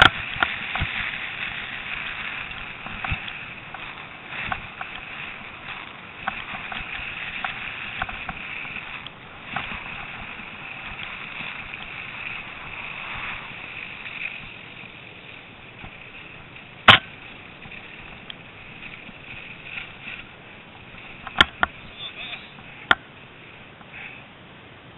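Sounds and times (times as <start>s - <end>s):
bike rattling clicks: 0.0s - 24.0s
bike tyres hissing on snow: 0.0s - 24.5s.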